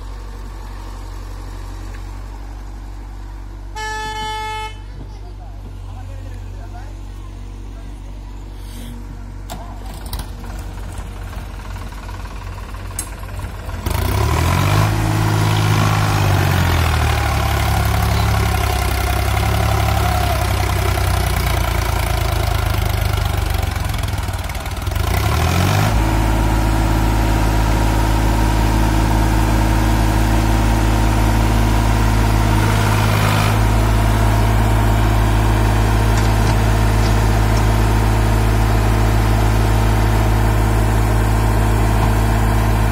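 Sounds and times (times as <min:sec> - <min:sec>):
tractor diesel engine revving: 0:06.0 - 0:42.9.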